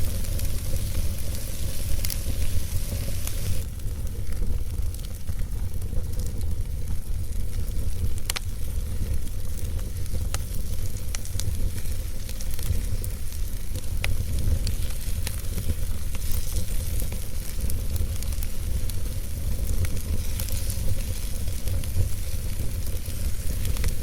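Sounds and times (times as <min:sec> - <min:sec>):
campfire crackling and popping: 0:00.0 - 0:24.0
low rumble of fire: 0:00.0 - 0:24.0.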